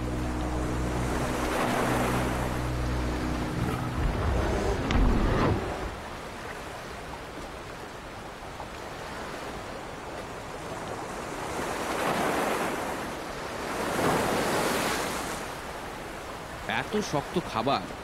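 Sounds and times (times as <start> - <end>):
ocean surf washing ashore: 0.0 - 18.0.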